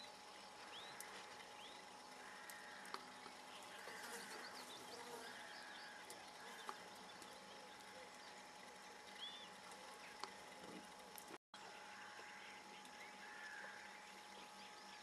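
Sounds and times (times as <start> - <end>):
distant bird calls and chirps: 0.0 - 15.0.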